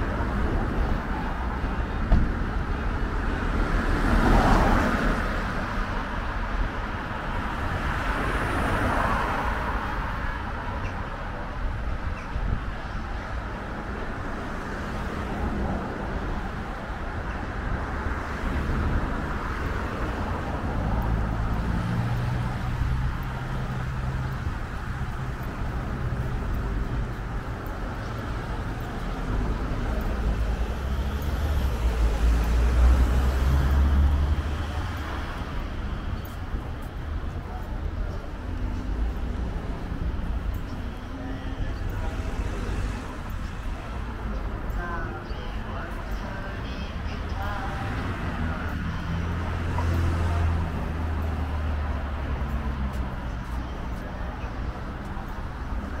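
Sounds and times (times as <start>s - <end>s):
background traffic noise: 0.0s - 56.0s
steady road noise: 0.0s - 56.0s
vehicle engine and tyre rumble: 0.0s - 56.0s.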